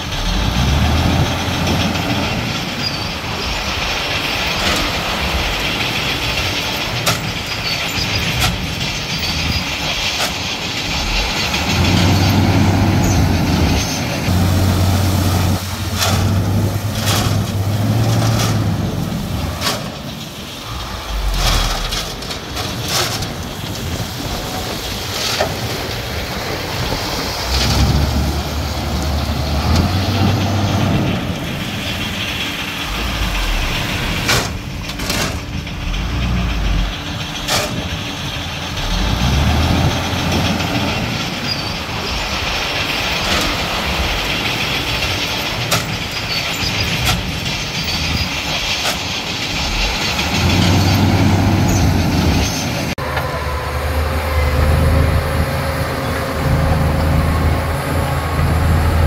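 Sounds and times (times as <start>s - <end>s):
heavy machinery diesel engine: 0.0s - 59.0s
sharp metallic clanks: 1.1s - 14.6s, 15.6s - 53.3s.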